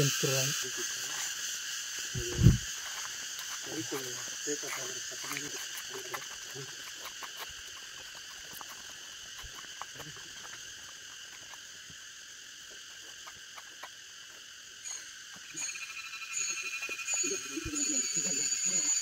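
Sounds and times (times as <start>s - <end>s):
forest insects chirring: 0.0s - 19.0s
pulsing insect call: 0.0s - 19.0s.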